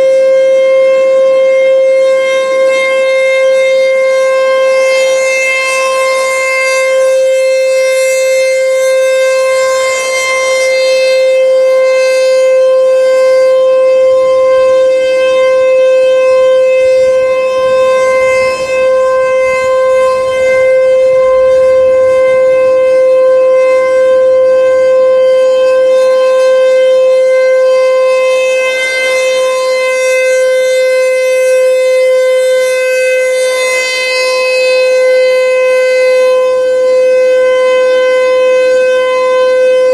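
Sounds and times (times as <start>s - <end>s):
rotating siren steady tone: 0.0s - 39.9s.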